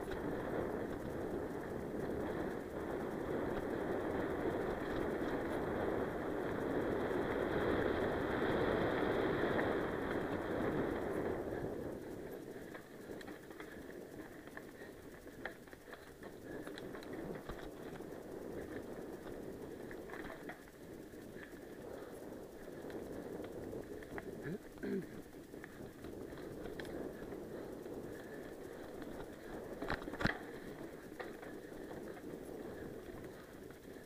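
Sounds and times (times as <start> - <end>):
bike clicks and rattles: 0.0 - 34.0
wind rushing over microphone: 0.0 - 34.0.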